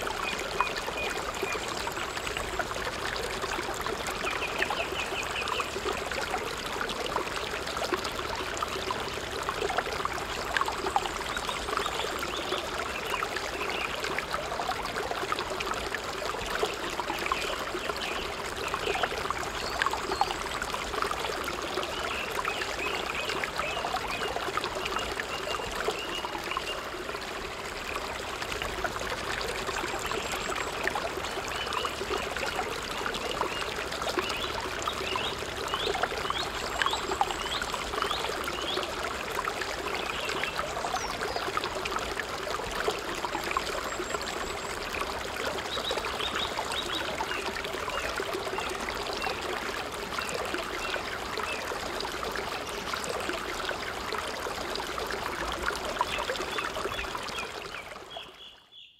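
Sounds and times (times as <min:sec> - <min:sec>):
stream running over rocks: 0:00.0 - 0:58.4.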